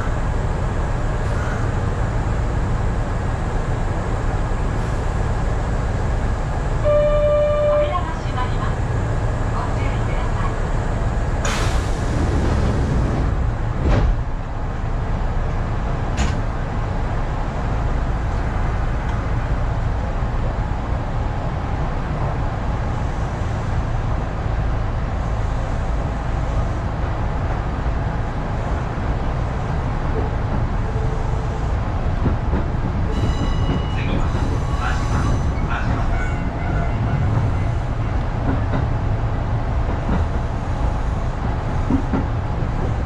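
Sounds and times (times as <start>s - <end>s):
train low rumble: 0.0s - 43.0s.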